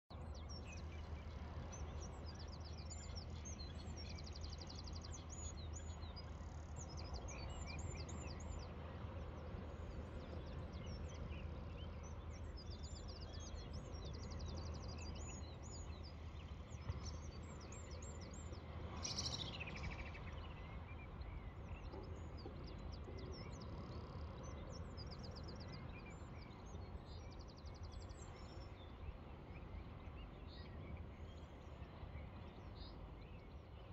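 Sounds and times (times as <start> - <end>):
small birds chirping and trilling: 0.1 - 33.9.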